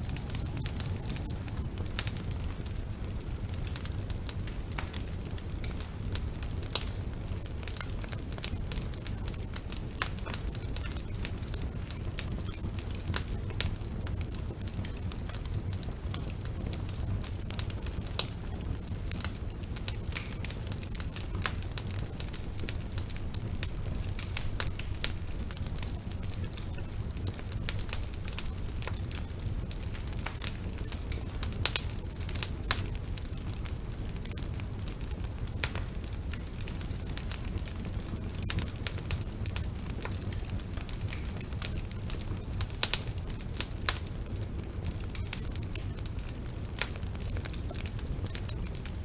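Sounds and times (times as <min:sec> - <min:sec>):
low rumble of flames: 0:00.0 - 0:49.0
wood fire crackles and pops: 0:00.0 - 0:49.0.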